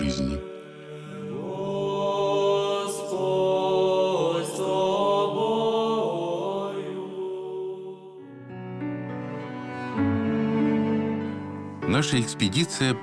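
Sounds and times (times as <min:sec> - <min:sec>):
church chant melody: 0:00.0 - 0:13.0.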